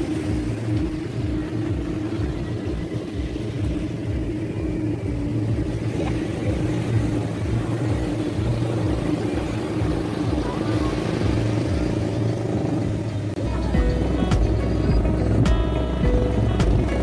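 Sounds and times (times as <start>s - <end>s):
constant hum: 0.0s - 17.0s
low rumble: 0.0s - 17.0s.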